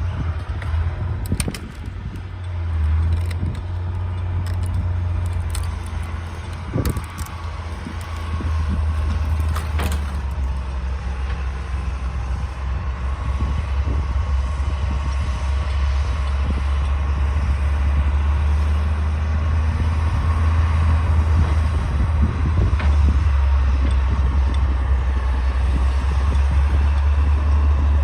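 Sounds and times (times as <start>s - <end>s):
bulldozer diesel engine drone: 0.0s - 28.0s.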